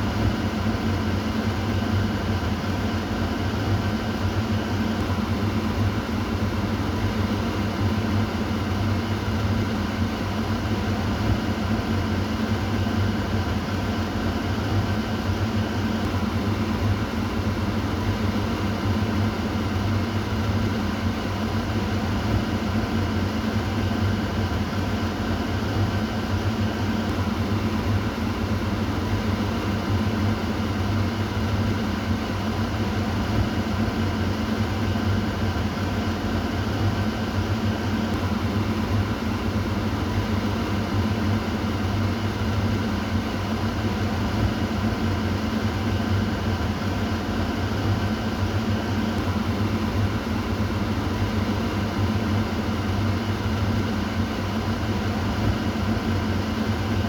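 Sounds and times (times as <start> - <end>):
kitchen exhaust fan humming: 0.0 - 57.0.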